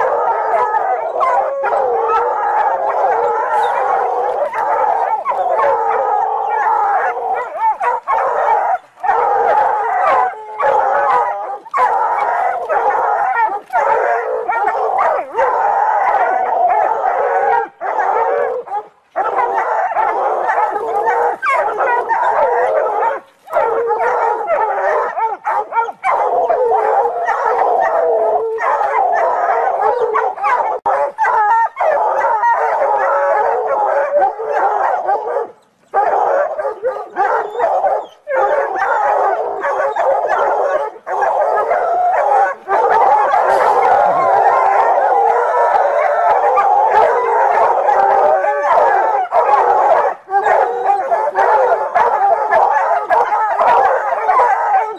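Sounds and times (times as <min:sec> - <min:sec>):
hounds baying and howling: 0:00.0 - 0:54.9.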